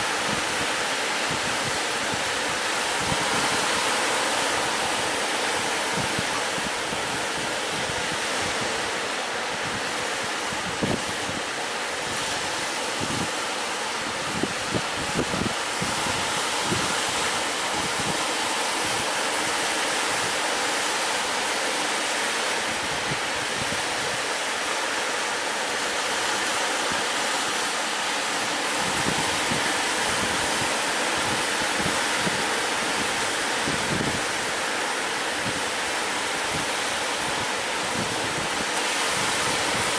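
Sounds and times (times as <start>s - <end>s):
wind buffeting microphone: 0.0s - 20.4s, 26.9s - 34.7s, 35.3s - 39.9s
sea surf: 0.0s - 39.9s.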